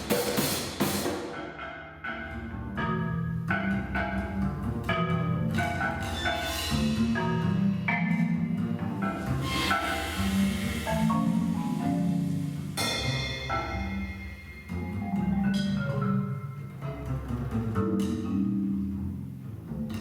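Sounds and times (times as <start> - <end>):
marimba played with mallets: 1.4 - 19.4.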